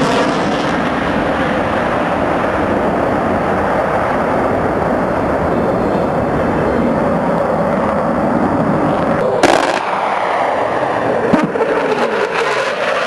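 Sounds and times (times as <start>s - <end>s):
fighter jet flying past: 0.0s - 13.0s.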